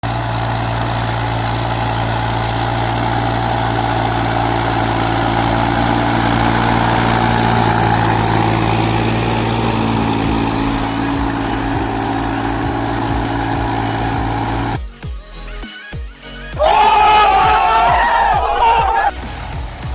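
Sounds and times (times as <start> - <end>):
tractor diesel engine running: 0.0 - 14.9, 16.6 - 19.9.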